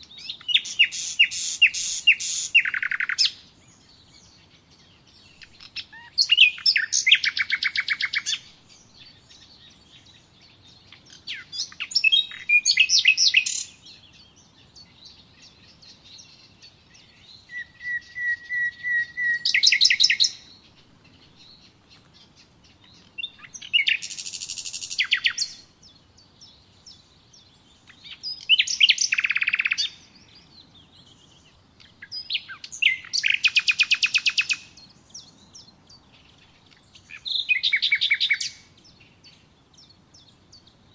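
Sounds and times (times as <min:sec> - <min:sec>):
songbird trilling: 0:00.0 - 0:40.9.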